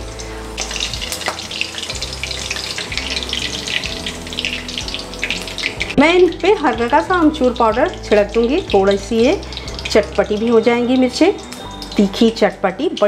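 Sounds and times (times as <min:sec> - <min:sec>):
chillies sizzling in oil: 0:00.0 - 0:13.0.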